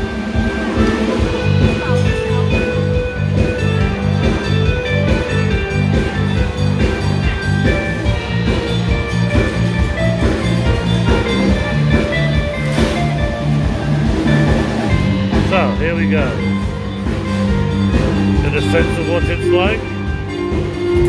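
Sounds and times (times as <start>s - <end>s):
drums: 0.0s - 21.0s
melodic music with beat: 0.0s - 21.0s.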